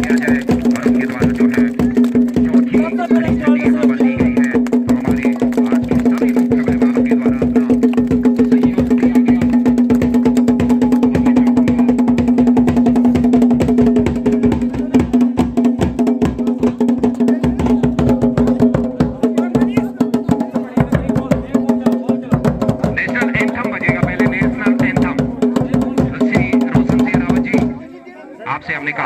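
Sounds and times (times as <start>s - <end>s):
dhol beaten in fast strokes: 0.0s - 27.8s.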